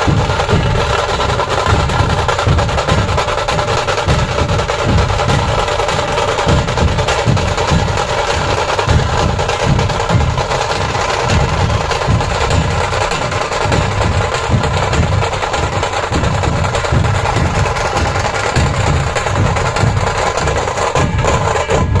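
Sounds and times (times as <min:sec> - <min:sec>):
barrel drums pounding: 0:00.0 - 0:22.0
sharp drum rolls: 0:00.0 - 0:22.0.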